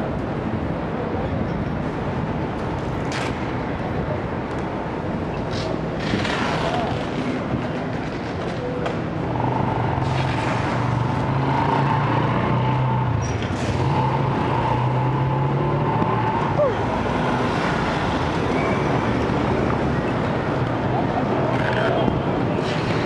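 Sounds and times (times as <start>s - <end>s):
passing cars: 0.0s - 23.0s
vehicle engine drone: 2.8s - 23.0s.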